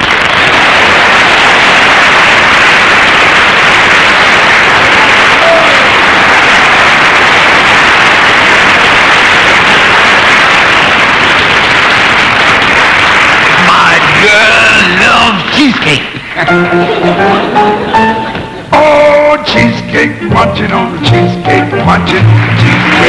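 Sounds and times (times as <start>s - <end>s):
audience applauding and cheering: 0.0s - 23.0s.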